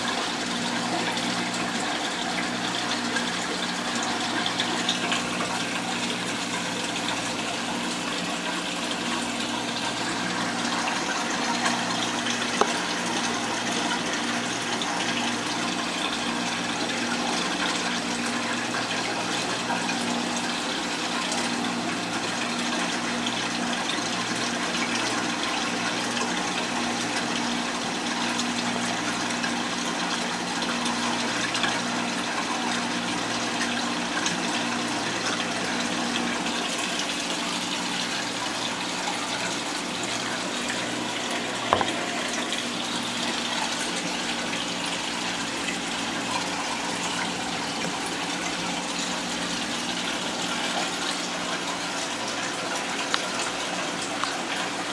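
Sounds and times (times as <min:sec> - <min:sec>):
aquarium water rushing and trickling: 0:00.0 - 0:54.9.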